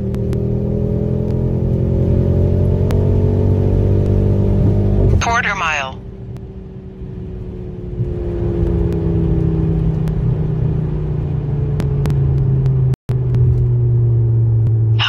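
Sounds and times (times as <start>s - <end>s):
car engine droning: 0.0s - 15.0s
road and wind noise: 0.0s - 15.0s.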